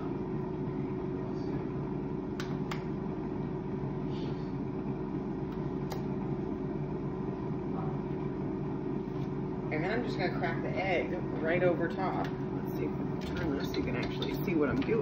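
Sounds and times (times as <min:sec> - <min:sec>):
fan-like hum: 0:00.0 - 0:15.0.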